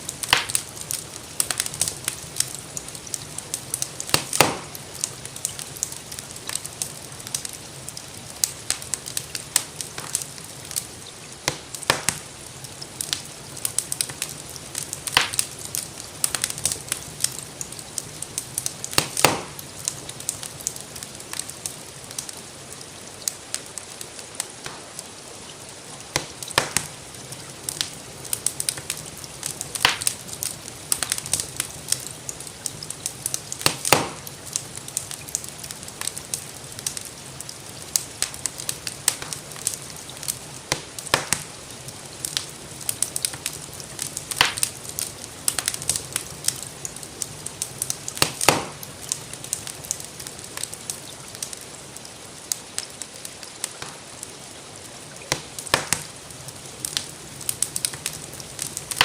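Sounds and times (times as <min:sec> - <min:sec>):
gentle rain hiss: 0:00.0 - 0:59.0
wood fire crackling: 0:00.0 - 0:59.0.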